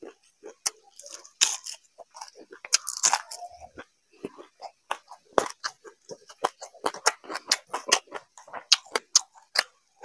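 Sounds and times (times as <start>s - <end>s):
person chewing with mouth smacks: 0.0s - 9.8s.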